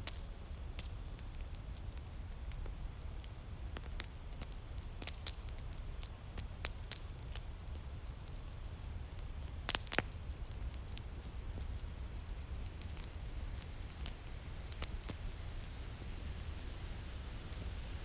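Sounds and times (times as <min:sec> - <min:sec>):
low rumble of wind: 0:00.0 - 0:18.0
wood fire crackling: 0:00.0 - 0:18.0.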